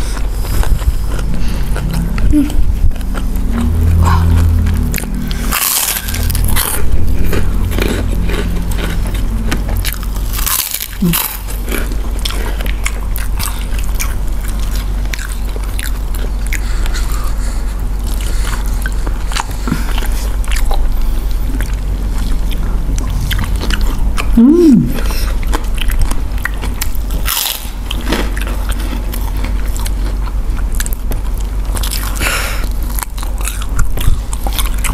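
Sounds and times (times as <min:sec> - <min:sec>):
cracker crunching: 0:00.0 - 0:24.4, 0:25.0 - 0:34.9
chewing and mouth sounds: 0:00.0 - 0:34.9.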